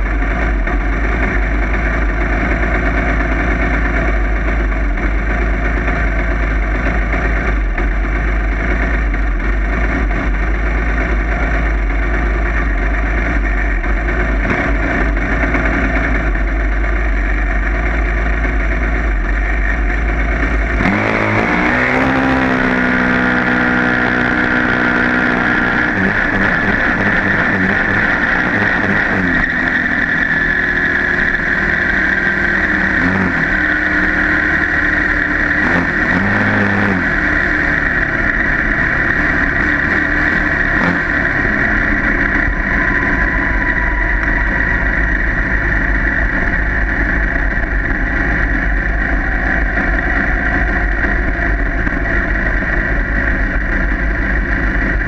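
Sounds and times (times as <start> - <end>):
dragster engine running: 0.0 - 55.0
high whine: 0.0 - 55.0.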